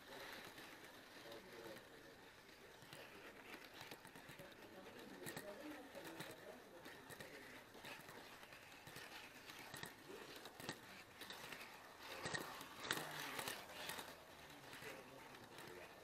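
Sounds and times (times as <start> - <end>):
model train wheels clicking: 0.0 - 16.0.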